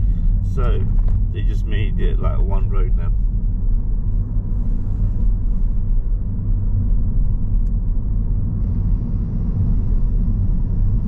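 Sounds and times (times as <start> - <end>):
car engine and tyres rumble: 0.0 - 11.0.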